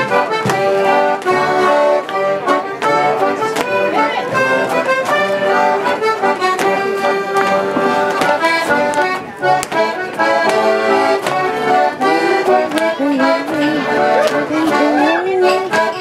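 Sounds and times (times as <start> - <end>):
accordion playing folk tune: 0.0 - 16.0
sharp rhythmic taps: 0.0 - 16.0.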